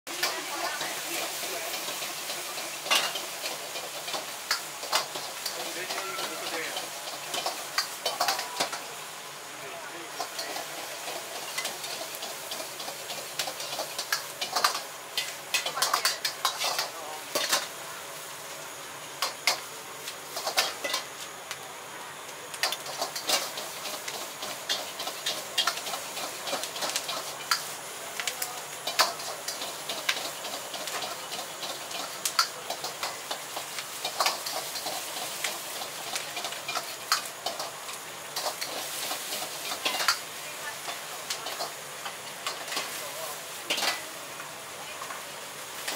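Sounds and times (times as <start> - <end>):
food sizzling: 0.0 - 45.9
gas flame hiss: 0.1 - 45.9.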